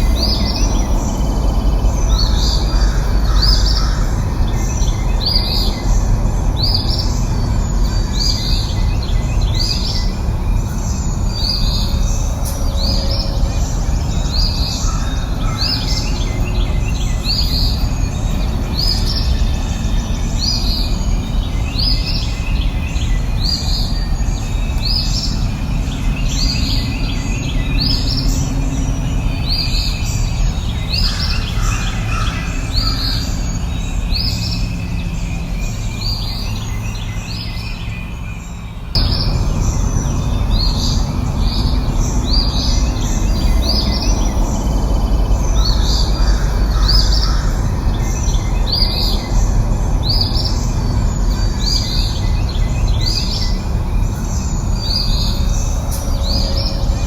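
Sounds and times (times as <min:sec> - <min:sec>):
bird chirping: 0:00.0 - 0:57.0
low outdoor rumble: 0:00.0 - 0:57.0.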